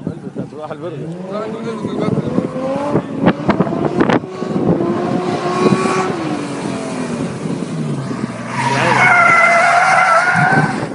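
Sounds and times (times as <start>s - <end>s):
car engine revving: 0.8s - 10.9s.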